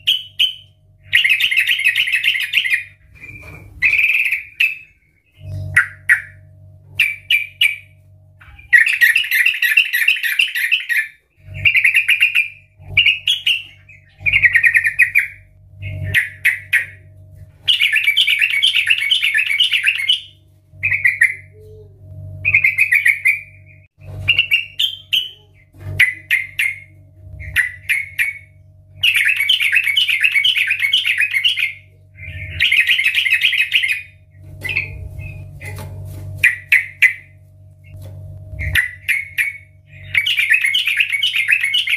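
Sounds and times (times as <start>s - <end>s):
bird singing bubbling warbles: 0.0s - 21.6s, 22.4s - 35.6s, 36.4s - 41.9s.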